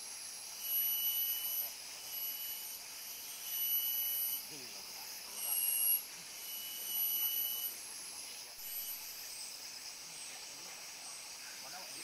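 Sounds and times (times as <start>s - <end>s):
faint forest background hiss: 0.0s - 12.0s
insects buzzing: 0.0s - 12.0s.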